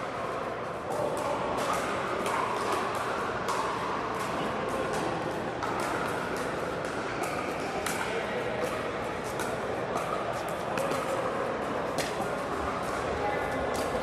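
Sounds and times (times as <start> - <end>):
indoor hall background din: 0.0 - 14.0.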